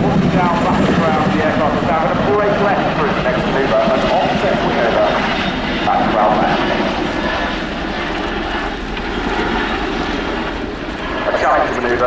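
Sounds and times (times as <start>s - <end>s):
helicopter rotor and engine noise: 0.0s - 12.0s.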